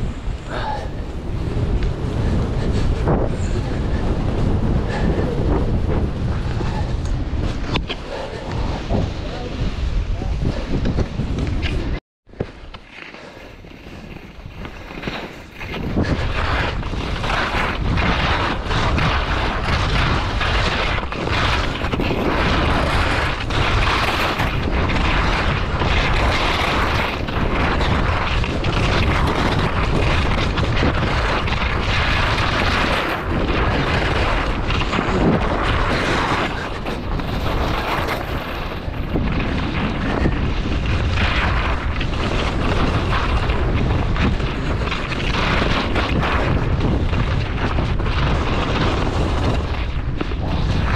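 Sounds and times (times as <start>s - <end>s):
skis scraping over snow: 0.0s - 50.9s
wind rushing over microphone: 0.0s - 50.9s.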